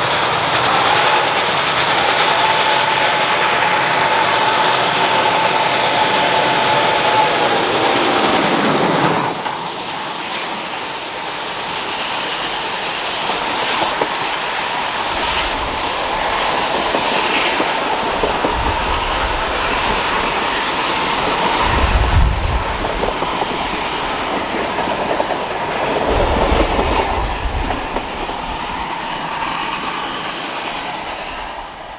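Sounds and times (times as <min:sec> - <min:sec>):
train rumble: 0:00.0 - 0:31.9
train wheels clattering: 0:00.0 - 0:31.9.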